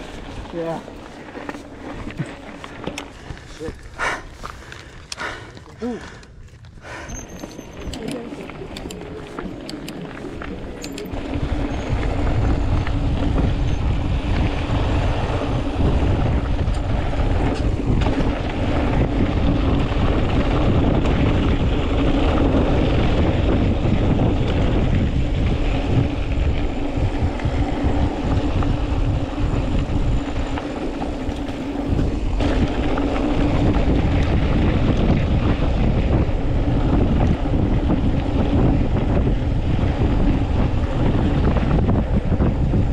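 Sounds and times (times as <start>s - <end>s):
steady low hum: 0.0s - 42.9s
wind buffeting microphone: 0.0s - 42.9s.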